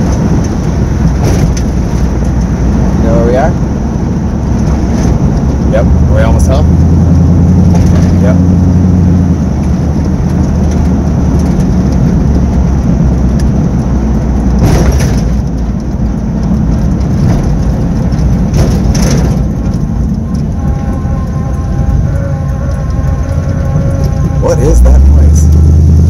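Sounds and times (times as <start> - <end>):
car engine and road noise drone: 0.0 - 26.0.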